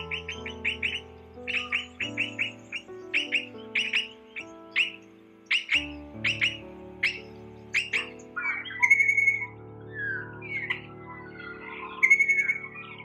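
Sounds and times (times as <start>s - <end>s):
background music with chords: 0.0s - 13.0s
birds chirping: 0.0s - 13.0s.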